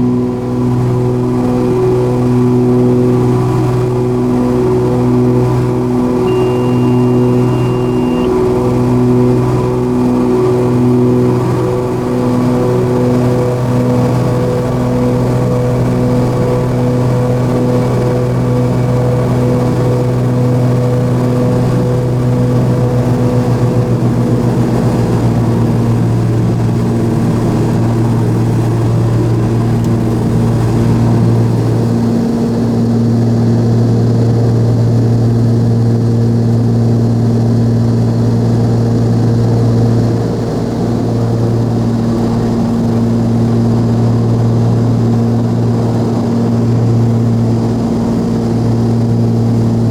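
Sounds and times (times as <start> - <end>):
aircraft engines droning: 0.0 - 49.9.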